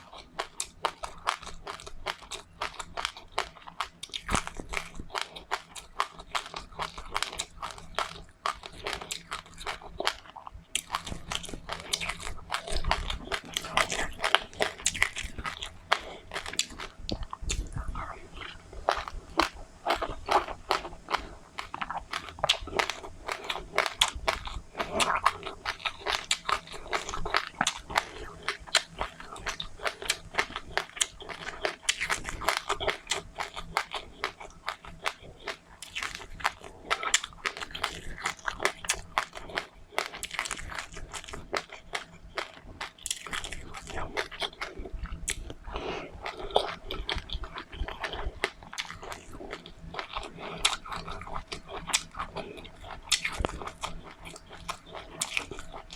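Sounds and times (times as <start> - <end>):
chewing crunchy seeds: 0.0 - 55.9.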